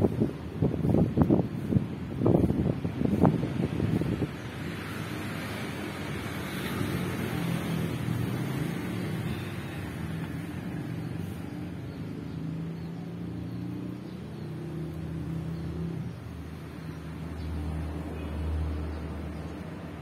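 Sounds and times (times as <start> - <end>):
deep engine hum of passing vehicle: 0.0 - 20.0
vehicle engines passing: 0.0 - 20.0.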